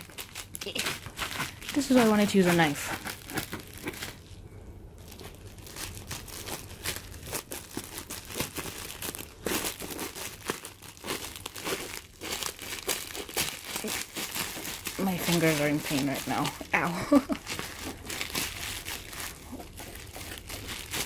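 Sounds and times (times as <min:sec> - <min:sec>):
scissors cutting plastic: 0:00.0 - 0:04.2, 0:06.4 - 0:21.0
plastic wrap crinkling: 0:00.0 - 0:21.0.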